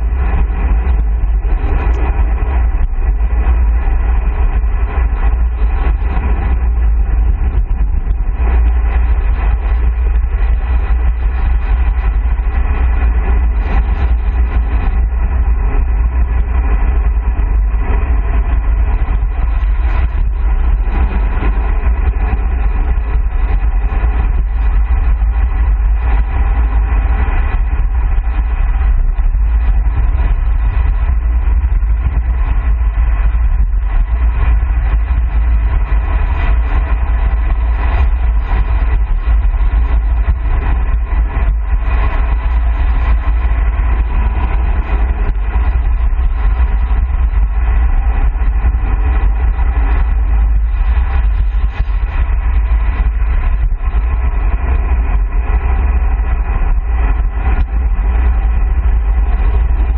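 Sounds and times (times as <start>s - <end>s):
wind rumbling on microphone: 0.0s - 59.9s.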